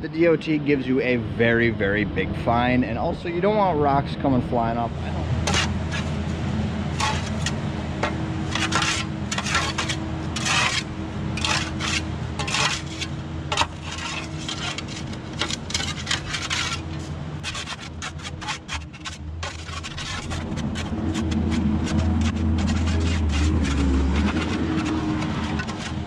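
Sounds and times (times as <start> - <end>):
rough scraping of dirt and rocks: 4.6 - 26.0.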